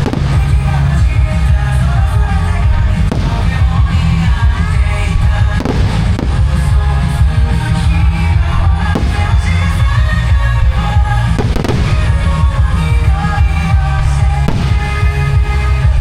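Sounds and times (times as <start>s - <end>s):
sharp firework bangs: 0.0s - 15.5s
fireworks deep rumble: 0.0s - 16.0s
music playing: 0.0s - 16.0s.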